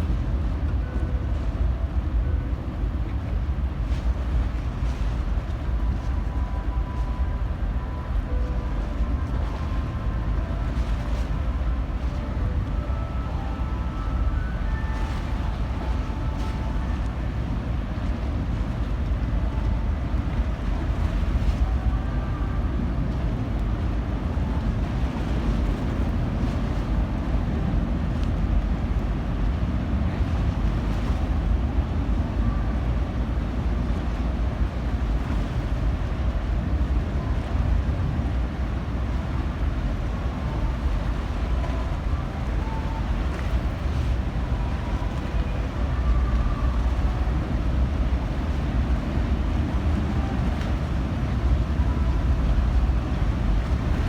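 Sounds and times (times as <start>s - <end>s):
ship engines rumbling: 0.0s - 54.0s
wind on microphone: 0.0s - 54.0s.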